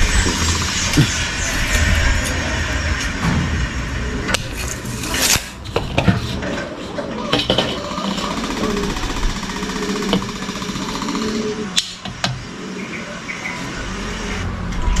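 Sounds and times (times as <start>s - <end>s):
loud background hiss and hum: 0.0s - 15.0s.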